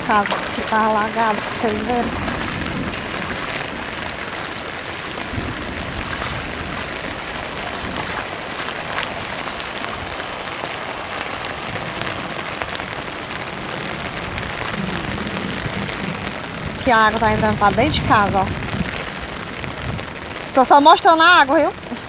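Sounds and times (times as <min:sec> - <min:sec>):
heavy rain: 0:00.0 - 0:22.0
raindrop splashes: 0:00.0 - 0:22.0.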